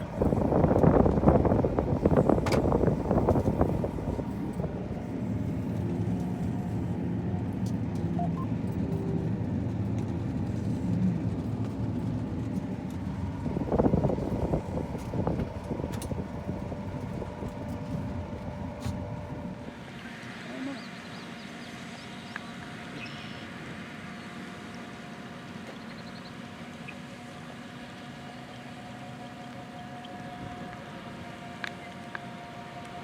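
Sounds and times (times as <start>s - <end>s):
diesel machine engine droning: 0.0s - 33.0s.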